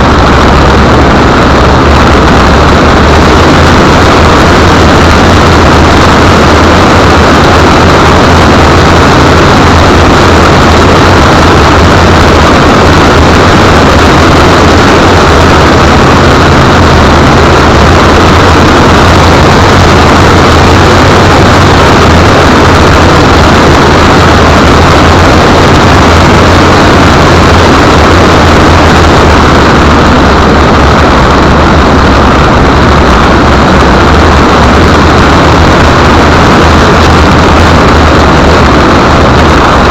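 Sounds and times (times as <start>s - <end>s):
car engine drone: 0.0s - 39.9s
road and wind noise: 0.0s - 39.9s.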